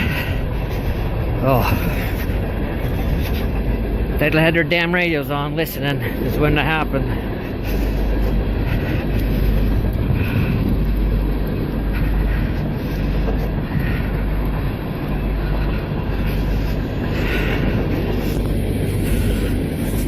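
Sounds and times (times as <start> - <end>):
heavy vehicle engine rumbling: 0.0 - 20.0.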